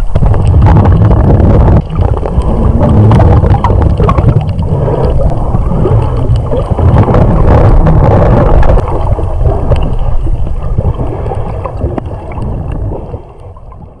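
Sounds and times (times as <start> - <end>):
muffled underwater rumble: 0.0 - 14.0.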